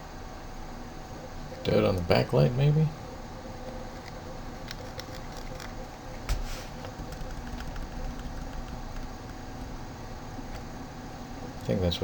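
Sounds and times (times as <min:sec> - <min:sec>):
fan-like room hum: 0:00.0 - 0:12.0.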